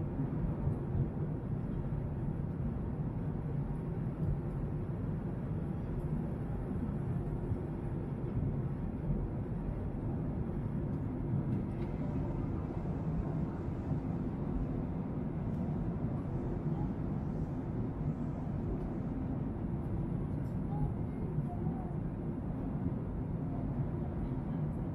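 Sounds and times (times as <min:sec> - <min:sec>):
airliner cabin drone: 0:00.0 - 0:24.9.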